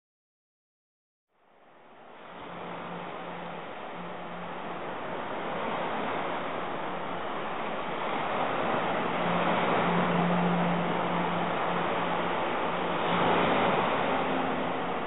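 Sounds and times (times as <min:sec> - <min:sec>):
low hum: 0:01.4 - 0:15.0
waves washing on sand: 0:01.4 - 0:15.0.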